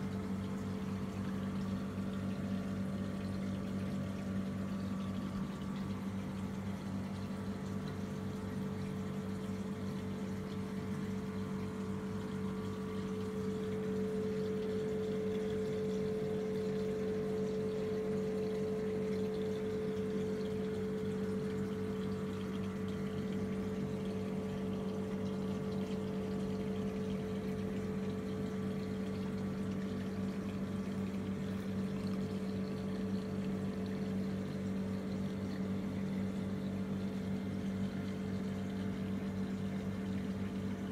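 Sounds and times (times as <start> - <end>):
aquarium pumps humming: 0.0 - 40.9.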